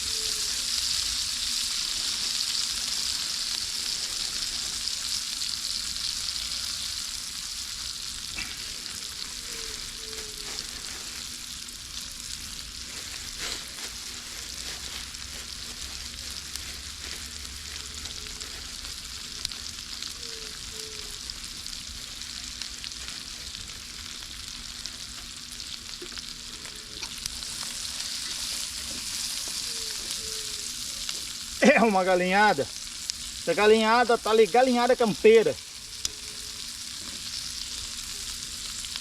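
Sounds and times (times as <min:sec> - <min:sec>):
food sizzling in a pot: 0:00.0 - 0:39.0.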